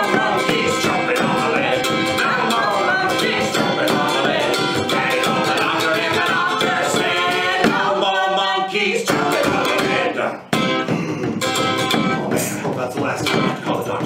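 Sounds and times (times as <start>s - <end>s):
frame drum: 0.0s - 8.0s, 9.1s - 14.0s
strummed ukulele: 0.0s - 8.1s, 9.1s - 14.0s
man singing: 0.0s - 14.0s.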